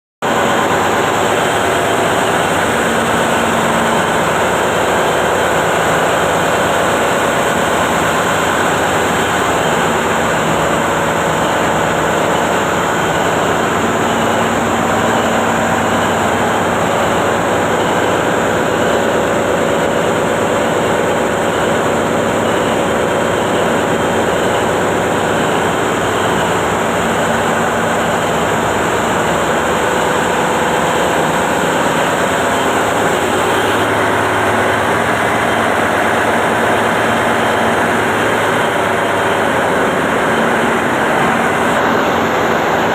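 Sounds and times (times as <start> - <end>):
diesel engine running: 0.2 - 42.9.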